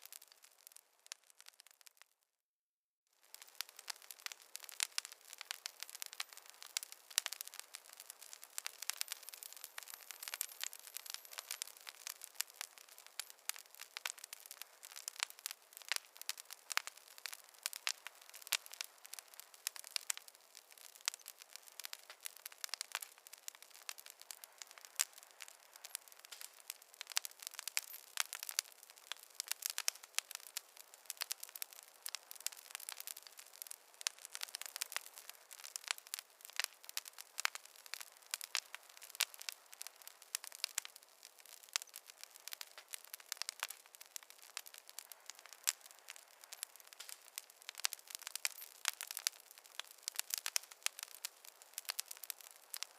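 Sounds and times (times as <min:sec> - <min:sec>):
fireplace fire crackling: 0:00.0 - 0:02.2, 0:03.2 - 0:52.9.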